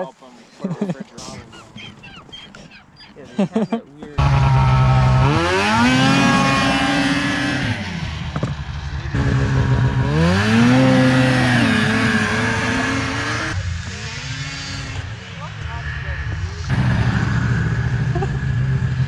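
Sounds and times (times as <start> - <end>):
snowmobile engines accelerating: 3.5 - 19.0.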